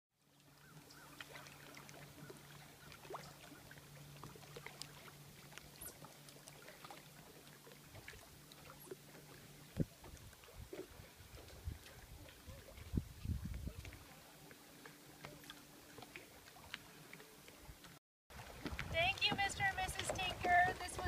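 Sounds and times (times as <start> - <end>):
water lapping around boat: 0.2 - 21.0.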